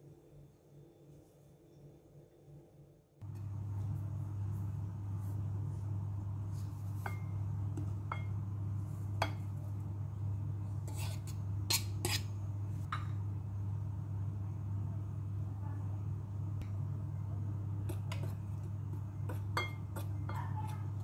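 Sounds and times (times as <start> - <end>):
steady low hum: 3.2 - 21.0.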